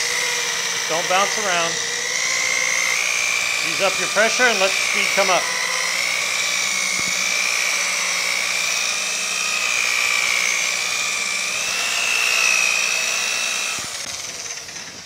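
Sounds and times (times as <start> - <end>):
rotary polisher motor whine: 0.0 - 15.0.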